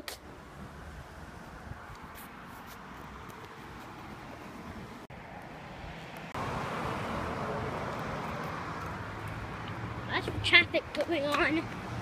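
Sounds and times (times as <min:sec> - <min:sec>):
road traffic rush: 0:00.0 - 0:12.0.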